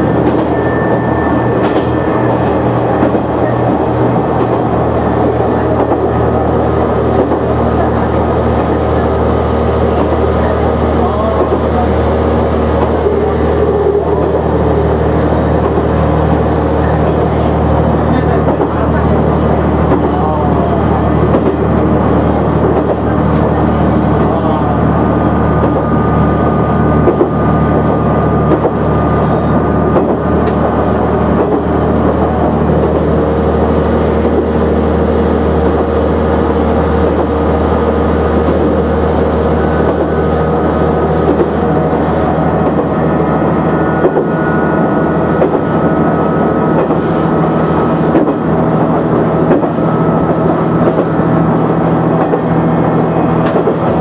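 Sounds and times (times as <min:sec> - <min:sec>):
diesel railcar drone: 0:00.0 - 0:54.0.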